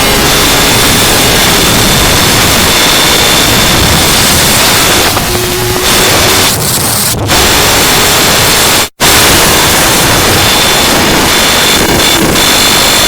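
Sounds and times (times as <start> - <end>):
harsh static noise: 0.0 - 13.0.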